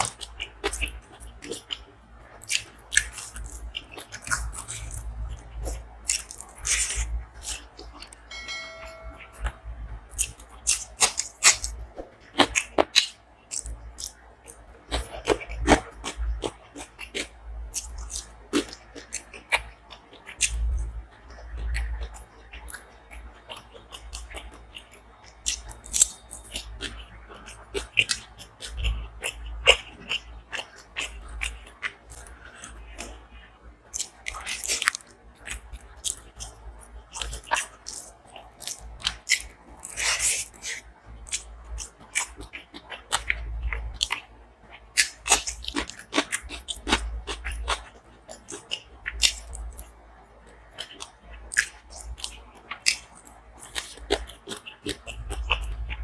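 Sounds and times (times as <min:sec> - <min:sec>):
chewing and crunching: 0:00.0 - 0:08.1, 0:10.2 - 0:56.0.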